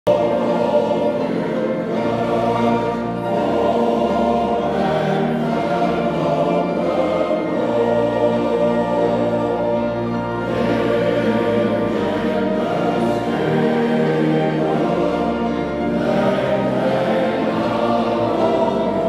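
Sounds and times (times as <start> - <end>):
male voice choir singing: 0.1 - 19.0.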